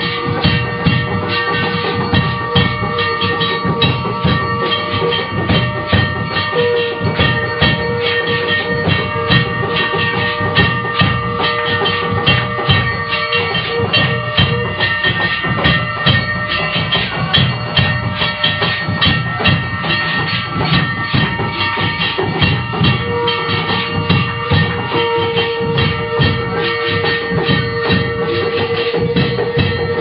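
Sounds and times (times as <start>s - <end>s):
rapid drum strokes: 0.0s - 30.0s
ringing bells: 0.0s - 30.0s.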